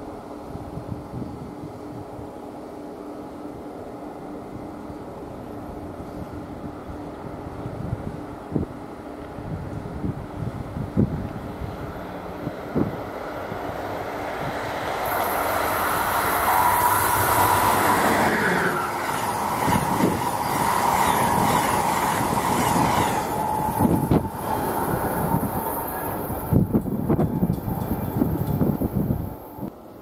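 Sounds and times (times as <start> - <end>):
train rushing rail roar: 0.0 - 30.0.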